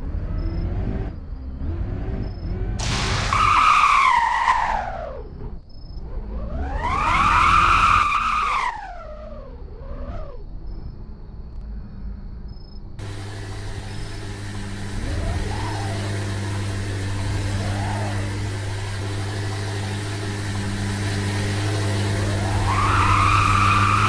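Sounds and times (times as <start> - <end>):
car engine revving: 0.0 - 10.4, 13.0 - 24.0.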